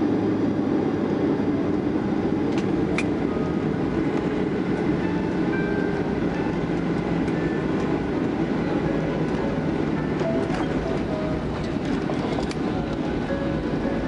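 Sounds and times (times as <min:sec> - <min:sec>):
jet engines and wheels rumbling: 0:00.0 - 0:14.0.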